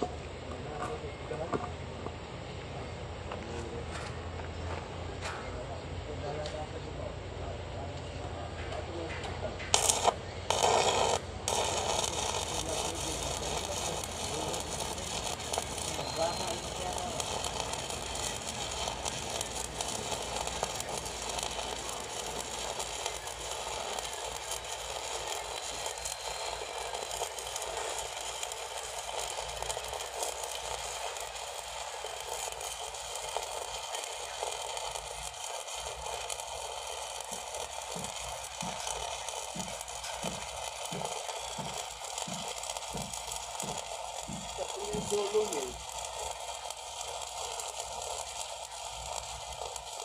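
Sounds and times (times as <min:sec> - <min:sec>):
welding arc crackling sizzle: 0:09.5 - 0:50.0.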